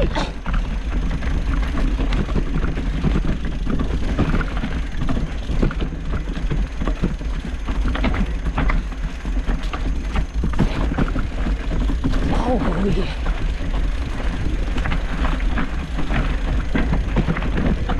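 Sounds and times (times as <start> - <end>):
bike rattling over rough ground: 0.0 - 17.9
steady low rumble: 0.0 - 17.9.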